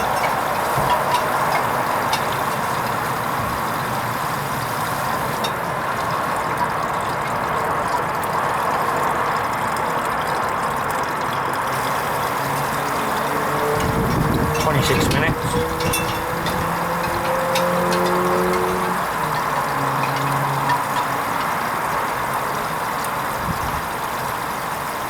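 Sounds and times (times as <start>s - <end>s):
washing machine rushing noise: 0.0s - 7.9s, 11.4s - 25.0s.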